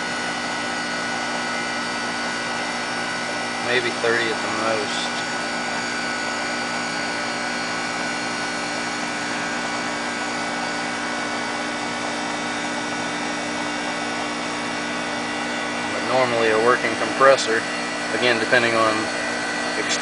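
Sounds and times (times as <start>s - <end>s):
air conditioner unit humming: 0.0s - 20.0s.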